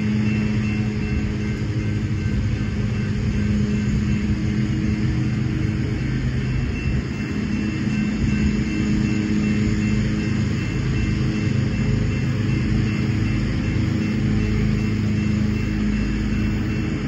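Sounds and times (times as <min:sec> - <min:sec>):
crossing warning bell ringing: 0:00.0 - 0:17.0
diesel train rumble: 0:00.0 - 0:17.0.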